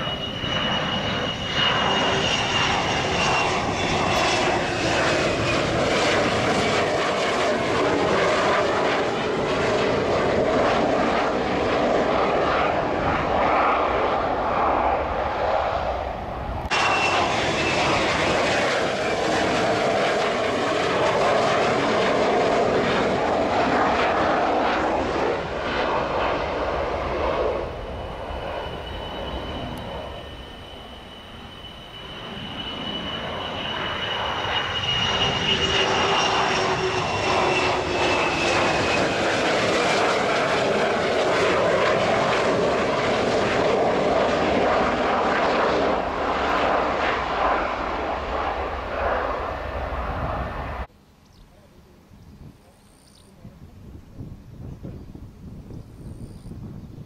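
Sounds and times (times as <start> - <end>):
jet engines roaring: 0.0 - 50.9
distant high jet whine: 0.0 - 57.0.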